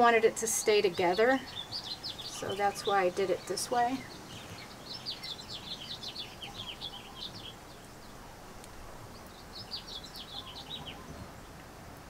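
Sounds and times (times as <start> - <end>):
small songbird chirping: 0.0 - 11.7
faint background hiss: 0.0 - 12.0.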